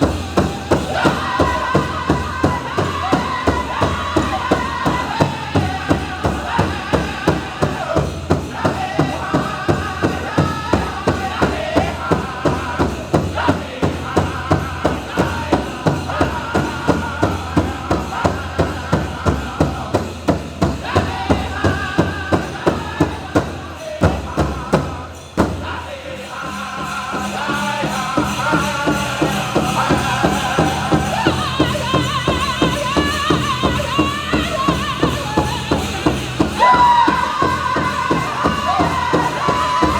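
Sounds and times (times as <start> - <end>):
big drum beat: 0.0 - 39.9
group singing: 0.0 - 39.9.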